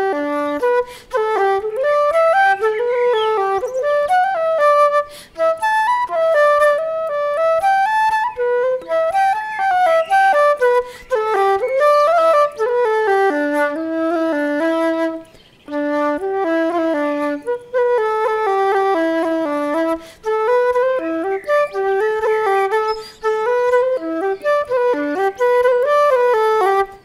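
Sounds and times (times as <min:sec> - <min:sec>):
instrumental music: 0:00.0 - 0:27.0.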